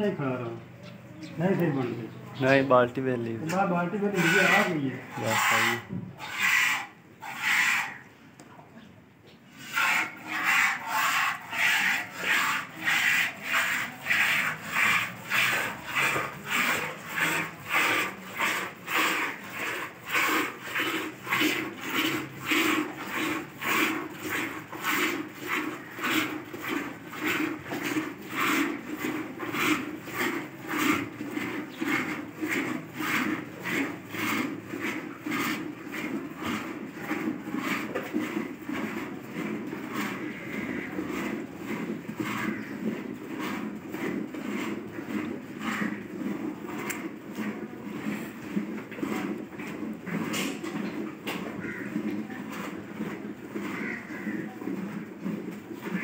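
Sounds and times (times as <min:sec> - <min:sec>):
milk squirting into metal pail: 0:09.5 - 0:56.0.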